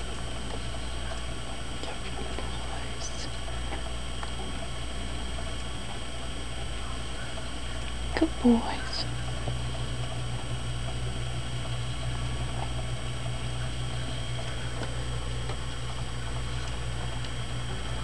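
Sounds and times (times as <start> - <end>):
faint high whine: 0.0 - 18.0
steady low hum: 0.0 - 18.0.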